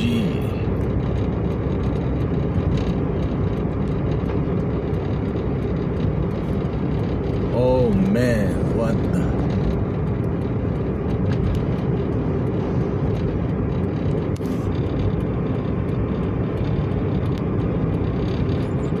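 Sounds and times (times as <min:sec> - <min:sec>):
traffic: 0:00.0 - 0:19.0.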